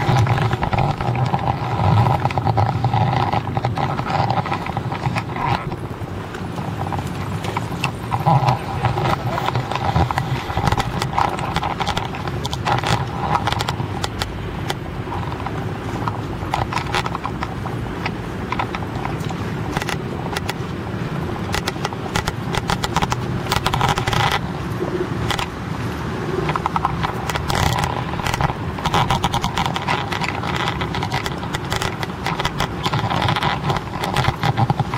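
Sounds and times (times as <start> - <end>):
street traffic rumble: 0.0 - 34.9.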